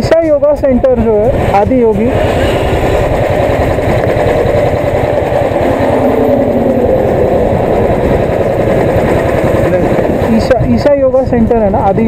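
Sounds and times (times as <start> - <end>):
motorcycle engine idling: 0.9 - 10.8.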